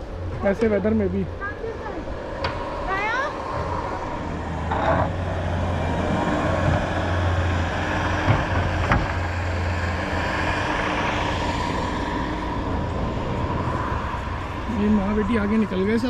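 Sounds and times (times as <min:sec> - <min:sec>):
engine low hum: 0:00.0 - 0:16.0.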